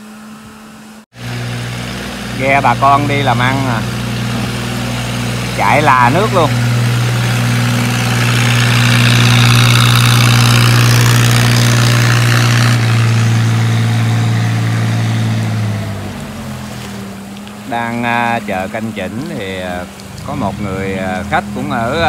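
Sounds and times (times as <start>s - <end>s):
boat engine droning: 0.0s - 22.0s
wake rushing over water: 1.8s - 22.0s.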